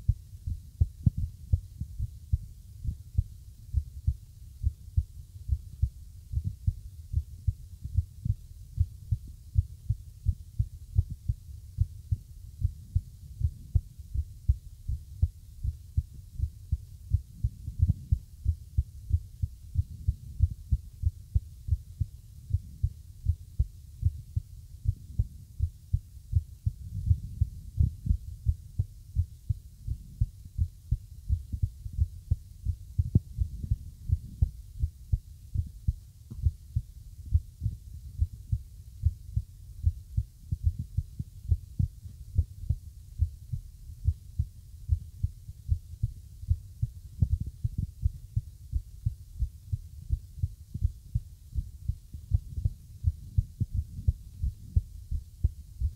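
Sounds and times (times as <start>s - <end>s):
faint low hum: 0.0s - 55.9s
heartbeat thumps: 0.0s - 55.9s.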